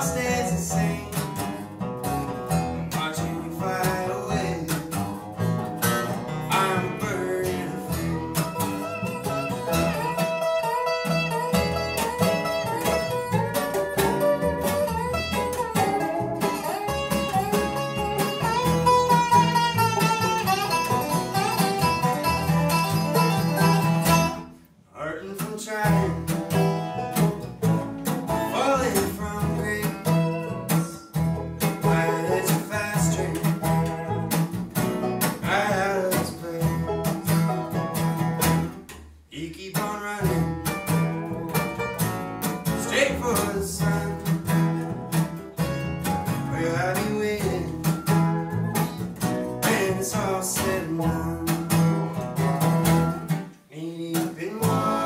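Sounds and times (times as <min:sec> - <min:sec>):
banjo: 0:00.0 - 0:24.6, 0:25.3 - 0:39.0, 0:39.6 - 0:55.0
resonator guitar sliding notes: 0:00.0 - 0:24.6, 0:25.8 - 0:38.9, 0:40.1 - 0:53.6
acoustic guitar: 0:00.0 - 0:55.0
upright bass: 0:00.0 - 0:55.0.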